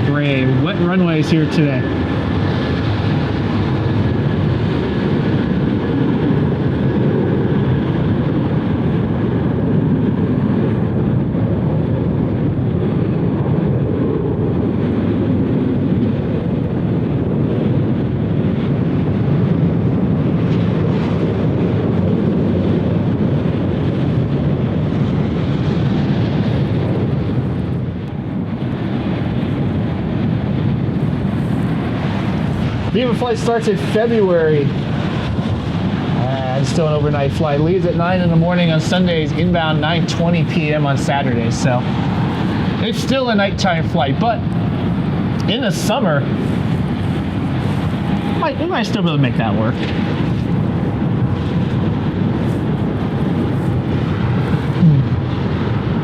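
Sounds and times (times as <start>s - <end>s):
jet aircraft engine: 0.0s - 56.0s
wind buffeting microphone: 0.0s - 56.0s.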